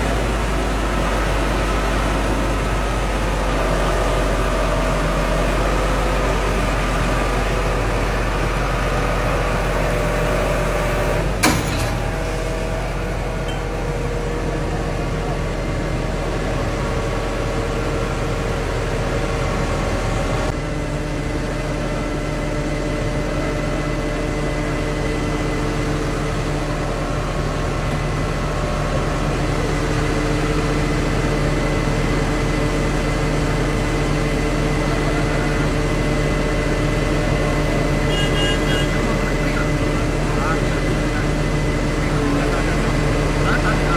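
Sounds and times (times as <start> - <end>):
crane diesel engine whining: 0.0 - 43.9.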